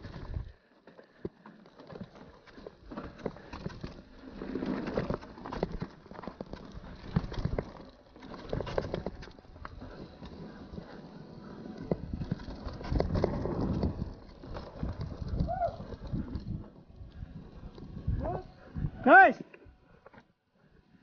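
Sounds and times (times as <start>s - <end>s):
bike rattling over rocks: 1.1s - 18.9s.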